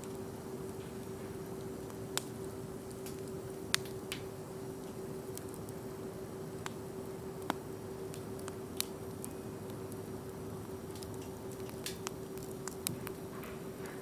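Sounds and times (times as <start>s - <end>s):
campfire crackling: 0.0s - 14.0s
faint steady hum: 0.0s - 14.0s.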